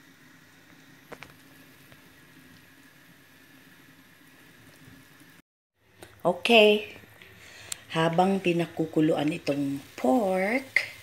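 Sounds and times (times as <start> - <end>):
pot boiling with bubbling hiss: 0.0 - 11.0.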